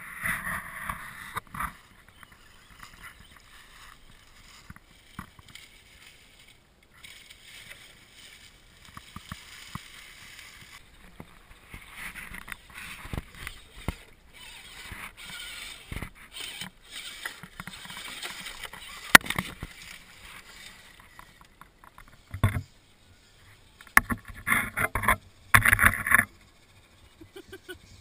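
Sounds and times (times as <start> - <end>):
rustling leaves and water: 0.0 - 28.0.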